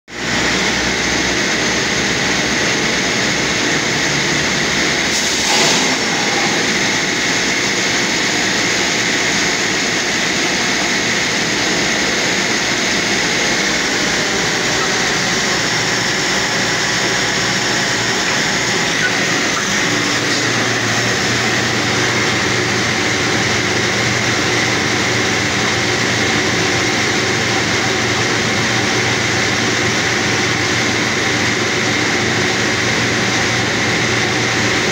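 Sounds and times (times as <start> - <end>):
compressor blowing air: 0.2 - 34.9
drilling rig running: 0.2 - 34.9.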